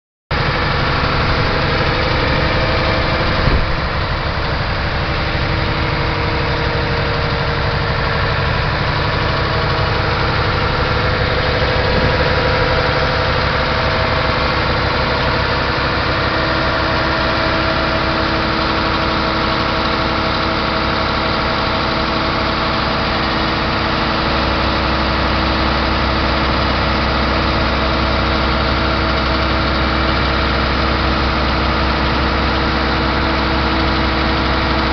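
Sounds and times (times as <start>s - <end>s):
diesel truck engine idling: 0.3s - 34.9s.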